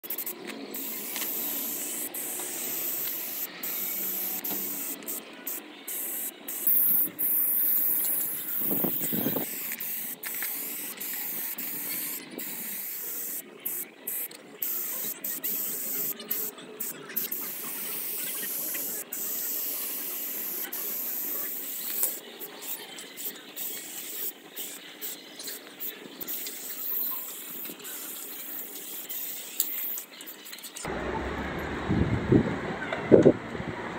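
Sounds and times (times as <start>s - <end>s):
spray paint can hissing: 0.0s - 30.9s.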